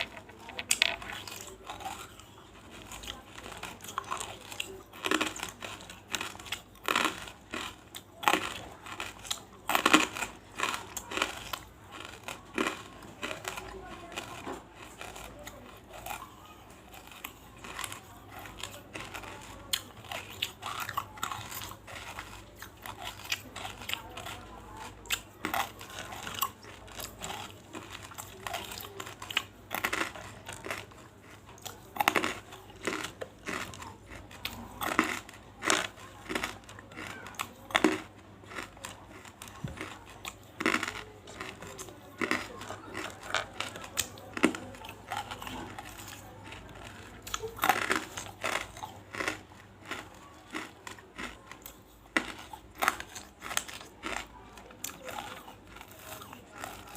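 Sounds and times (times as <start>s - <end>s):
crunching chalky pieces: 0.0s - 56.9s.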